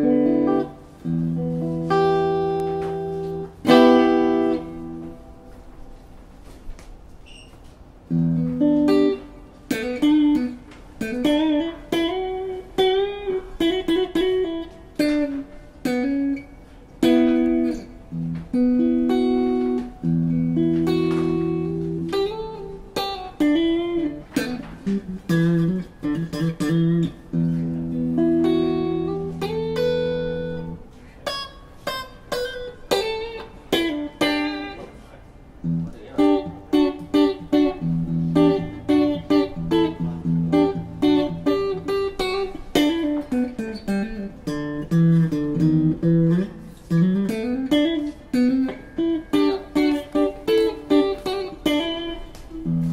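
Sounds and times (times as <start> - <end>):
electric guitar playing: 0.0 - 52.9.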